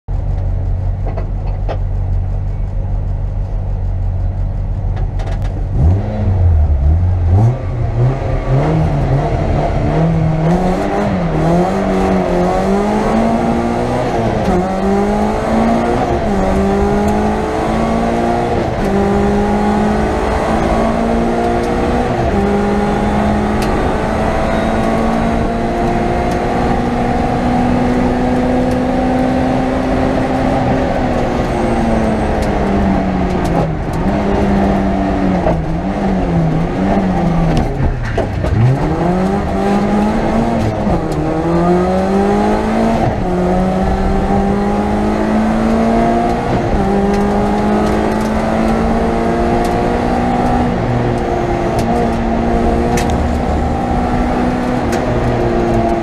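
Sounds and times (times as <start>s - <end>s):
car engine revving: 0.2s - 56.0s.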